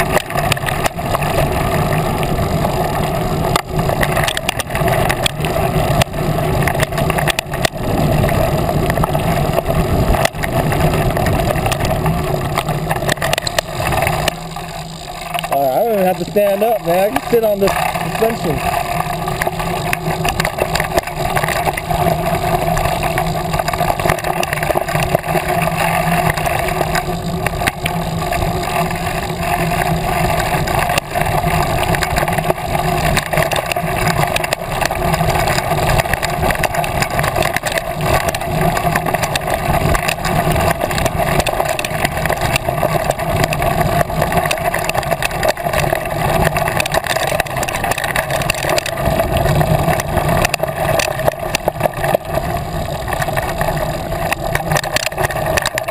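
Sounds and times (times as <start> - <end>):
mountain bike rattling on gravel: 0.0 - 55.9.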